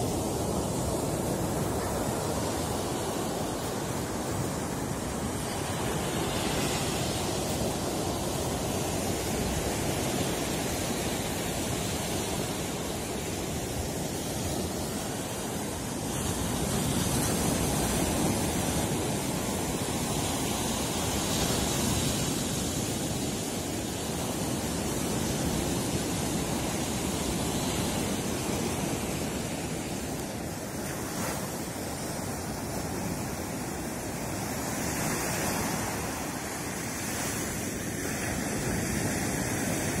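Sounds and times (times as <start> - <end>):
surf breaking on sandy beach: 0.0 - 40.0.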